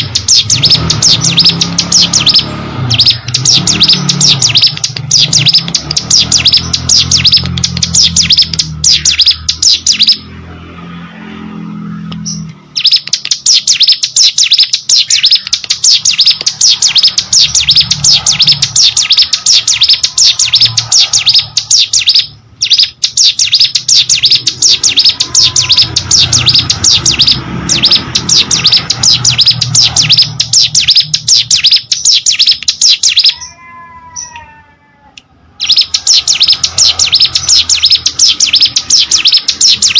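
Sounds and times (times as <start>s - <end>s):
bird singing high chirps: 0.0s - 10.5s, 11.1s - 34.6s, 35.5s - 39.9s.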